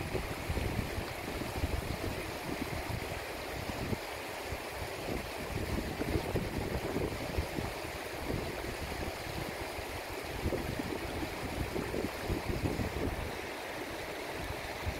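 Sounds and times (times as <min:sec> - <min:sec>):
stream running over stones: 0:00.0 - 0:14.9.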